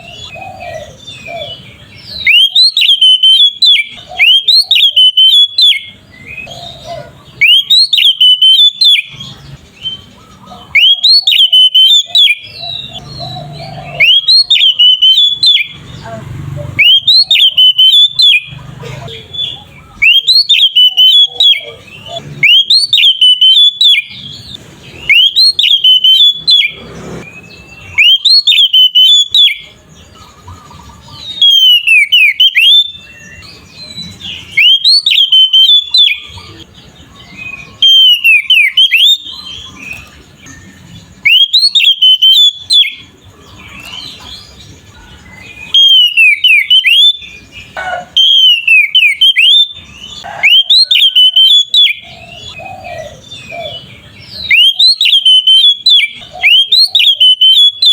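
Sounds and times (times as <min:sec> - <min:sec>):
songbird whistling song: 0:00.0 - 0:57.9.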